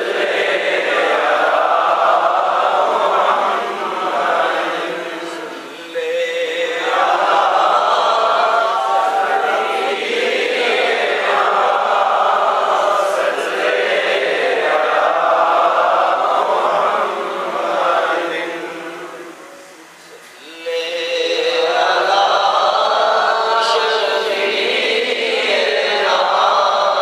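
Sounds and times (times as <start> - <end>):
men chanting without instruments: 0.0 - 27.0.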